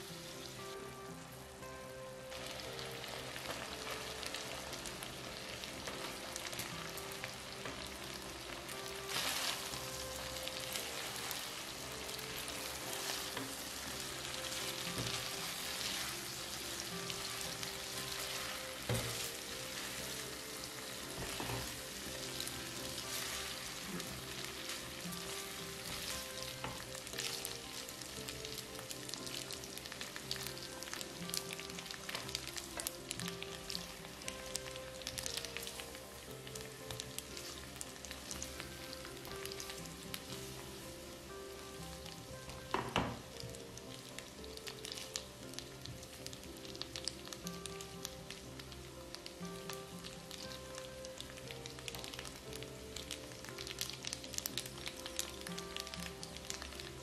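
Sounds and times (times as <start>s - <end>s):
sauce sizzling in frying pan: 0.0s - 57.0s.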